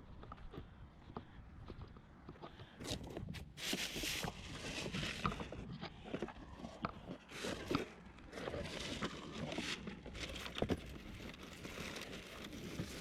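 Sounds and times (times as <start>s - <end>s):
footsteps on hard ground: 0.0s - 11.4s.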